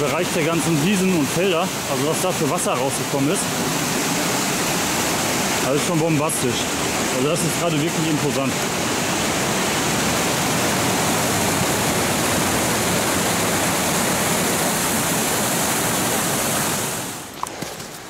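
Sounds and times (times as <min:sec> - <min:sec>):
stream rushing over boulders: 0:00.0 - 0:18.0.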